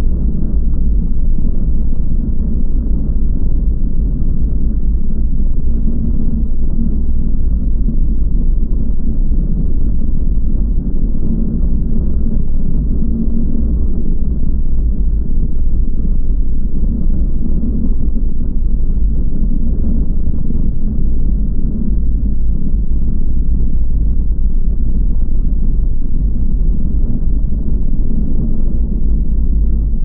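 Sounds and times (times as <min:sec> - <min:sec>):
boat engine rumble at speed: 0:00.0 - 0:30.0.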